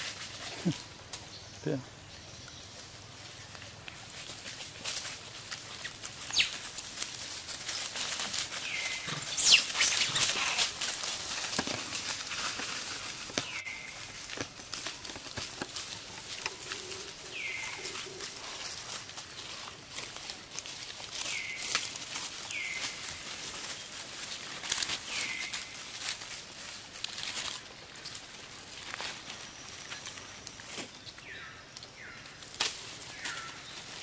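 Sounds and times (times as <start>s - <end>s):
dry leaves rustling and crackling: 0.0s - 34.0s.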